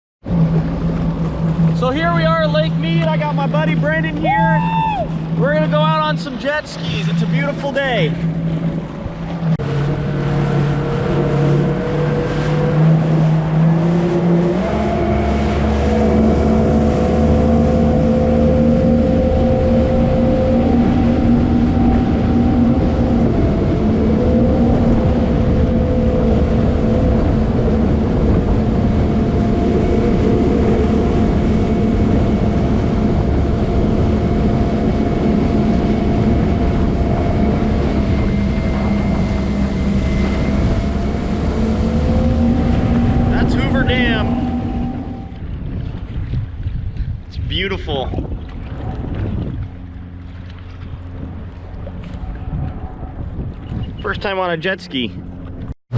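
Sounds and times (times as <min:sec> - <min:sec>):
jet ski engine running: 0:00.2 - 0:55.9
rushing wind and water: 0:00.2 - 0:55.9.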